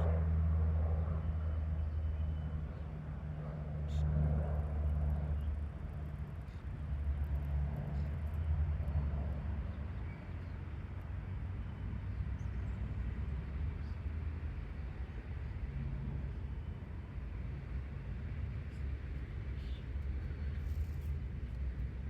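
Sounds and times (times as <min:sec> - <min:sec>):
low engine rumble with hum: 0:00.0 - 0:22.0.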